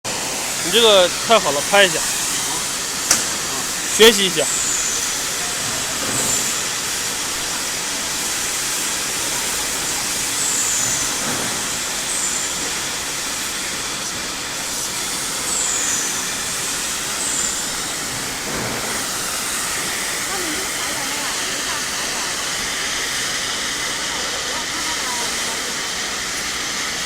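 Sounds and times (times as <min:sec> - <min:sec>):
torch flame hissing: 0:00.1 - 0:27.0.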